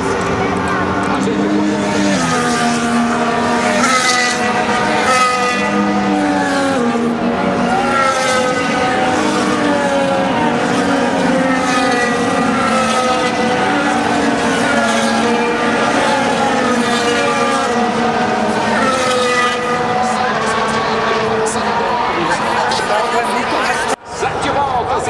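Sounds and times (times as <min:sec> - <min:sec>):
constant loud engine noise: 0:00.0 - 0:25.0
race car engines passing: 0:00.0 - 0:25.0.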